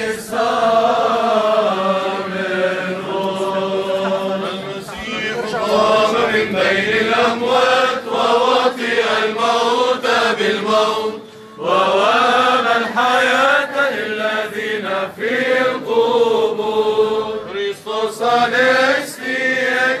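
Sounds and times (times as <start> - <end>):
men's choir chanting: 0.0 - 20.0.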